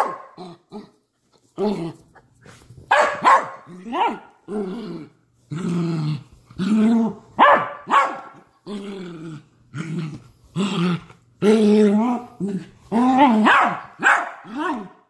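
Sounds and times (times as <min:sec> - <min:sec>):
dog growling and barking: 0:00.0 - 0:01.0, 0:01.6 - 0:02.2, 0:02.8 - 0:15.0.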